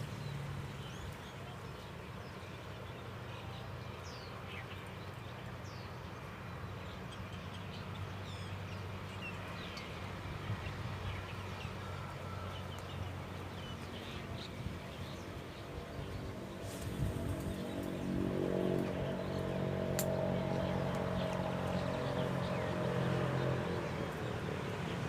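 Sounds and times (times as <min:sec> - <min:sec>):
wild birds chirping: 0:00.0 - 0:25.0.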